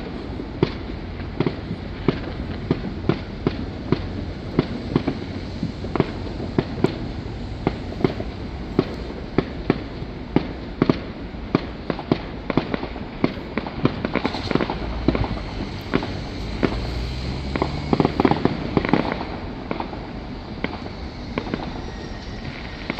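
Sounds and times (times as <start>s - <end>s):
fireworks bangs and pops: 0.0s - 22.9s
steady low rumble: 0.0s - 22.9s.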